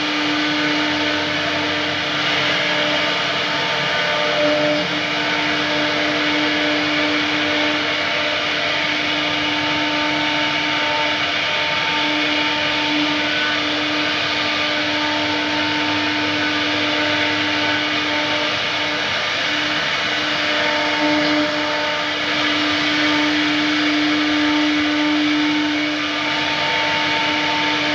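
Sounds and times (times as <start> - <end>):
wood router cutting wood: 0.0 - 27.9.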